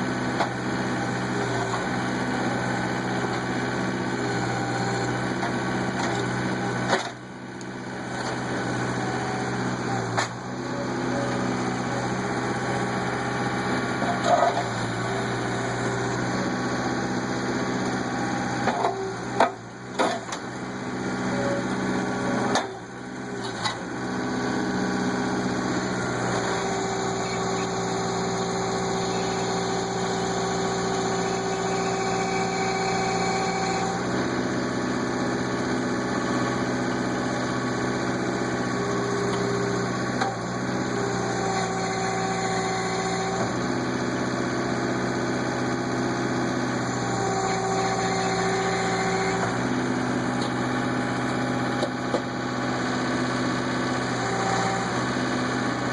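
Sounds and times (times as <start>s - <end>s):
skid steer engine running: 0.0s - 55.9s.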